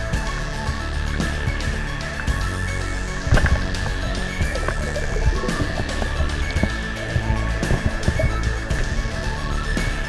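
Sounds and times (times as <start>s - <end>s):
background music with soft beat: 0.0s - 10.0s.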